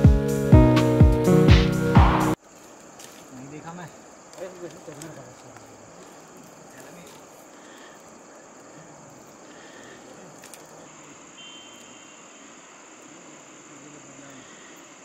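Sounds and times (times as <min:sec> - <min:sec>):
crickets chirping: 0:00.0 - 0:15.0
campfire crackle: 0:02.4 - 0:15.0.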